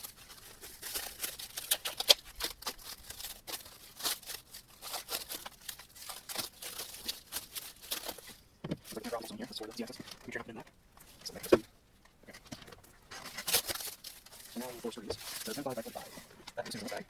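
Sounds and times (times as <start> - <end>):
plastic bags rustling: 0.0 - 11.7, 12.5 - 17.0.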